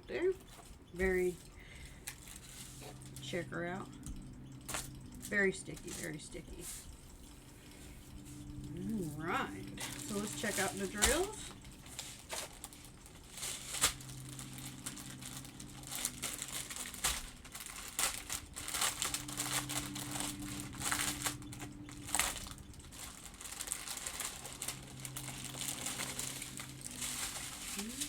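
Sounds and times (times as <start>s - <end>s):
plastic baggies crinkling: 0.2s - 28.0s.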